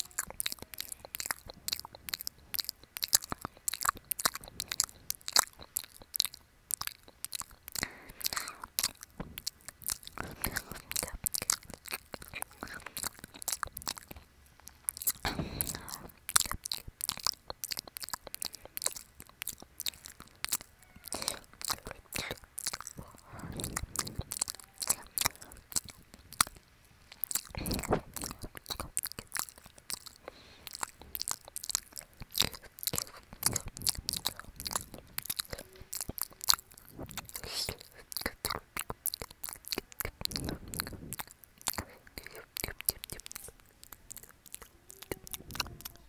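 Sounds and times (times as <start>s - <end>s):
wet mouth clicks and smacks: 0.0s - 46.0s.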